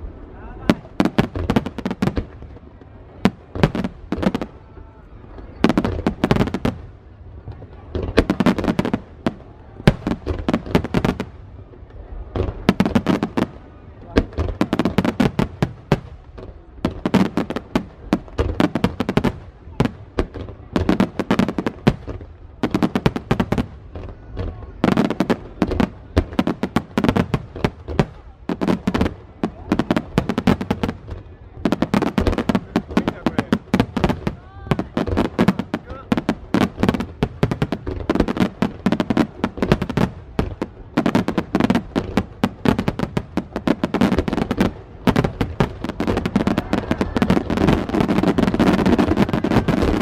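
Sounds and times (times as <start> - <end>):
fireworks bangs and cracks: 0.0 - 50.0.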